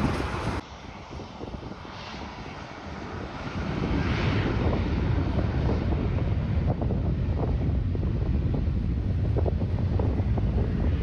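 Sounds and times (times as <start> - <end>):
jet airliner engine rumble: 0.0 - 11.0
wind on microphone: 0.0 - 11.0.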